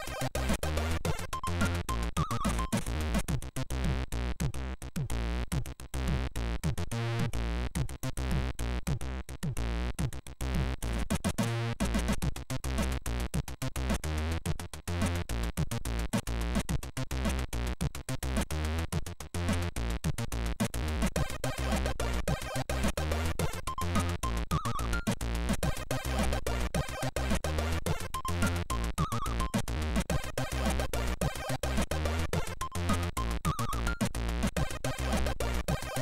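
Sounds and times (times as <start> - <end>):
stepped bass line: 0.4 - 36.0.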